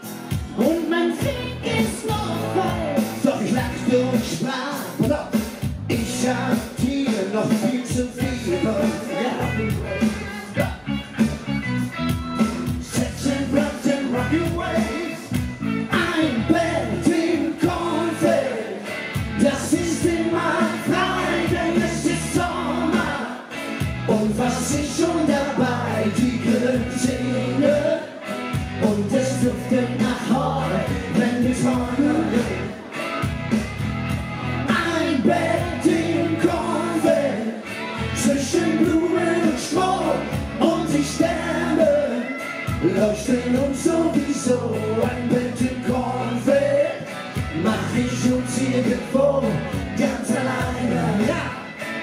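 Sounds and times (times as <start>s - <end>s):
upbeat pop band music: 0.0s - 52.0s
man and woman singing: 0.6s - 10.8s, 12.8s - 15.3s, 15.9s - 23.5s, 24.1s - 28.2s, 28.8s - 32.8s, 34.7s - 51.6s.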